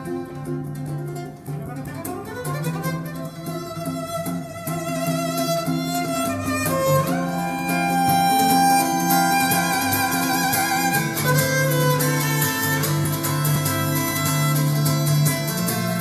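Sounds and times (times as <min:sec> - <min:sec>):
violin music over loudspeakers: 0:00.0 - 0:16.0.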